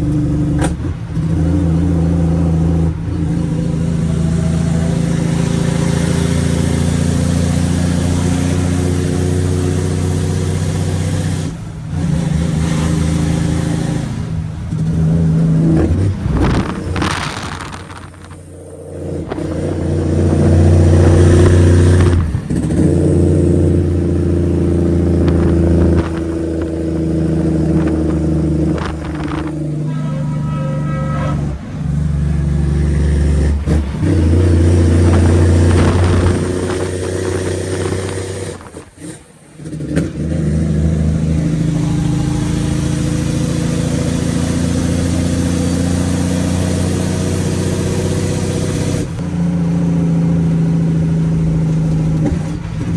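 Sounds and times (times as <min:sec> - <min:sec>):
diesel truck engine pulling under load: 0:00.0 - 0:52.9.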